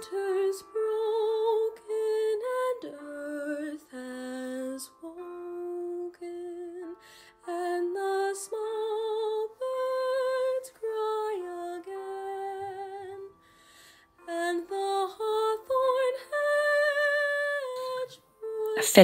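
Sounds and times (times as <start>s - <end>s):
woman singing slow melody: 0.0s - 13.3s, 14.2s - 19.0s.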